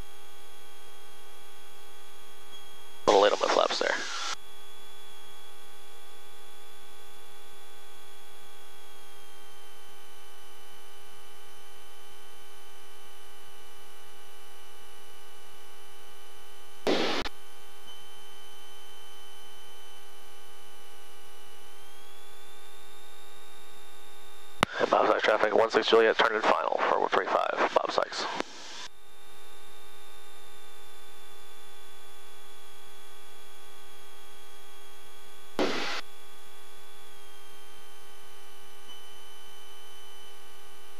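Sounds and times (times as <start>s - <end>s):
electrical hum and whine: 0.0s - 40.9s.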